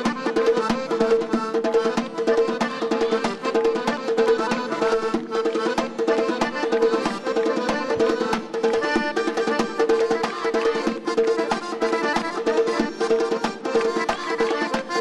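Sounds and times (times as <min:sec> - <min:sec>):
steady drum beat: 0:00.1 - 0:15.0.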